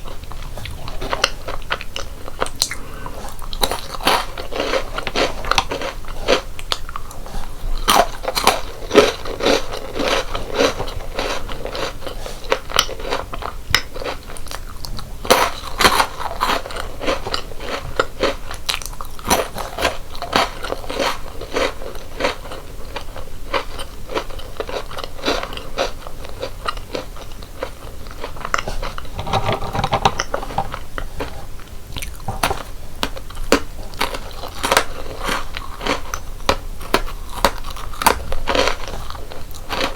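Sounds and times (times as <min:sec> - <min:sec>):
chewing and crunching snacks: 0:00.0 - 0:39.9.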